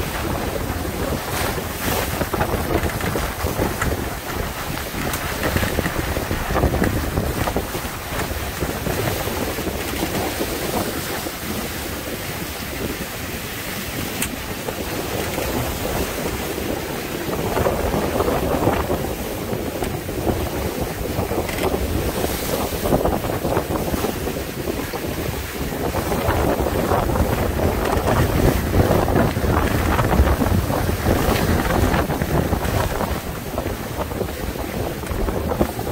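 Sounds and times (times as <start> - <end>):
sail creaking: 0.0 - 35.9
water rushing past hulls: 0.0 - 35.9
wind buffeting microphone: 0.0 - 35.9.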